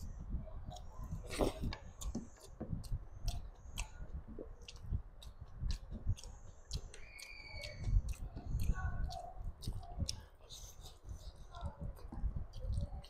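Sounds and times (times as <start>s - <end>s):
chewing food: 0.0s - 13.0s
wet mouth clicks and smacks: 0.7s - 13.0s.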